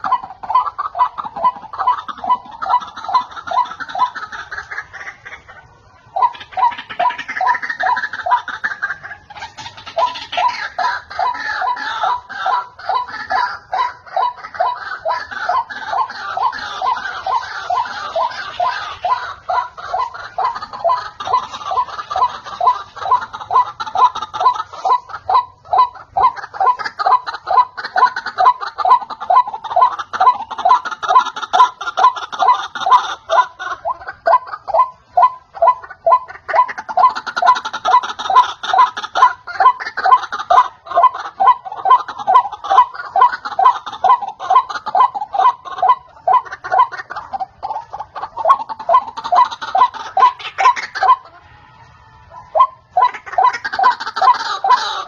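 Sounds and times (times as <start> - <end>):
harsh laugh-like bird calls: 0.0 - 55.0.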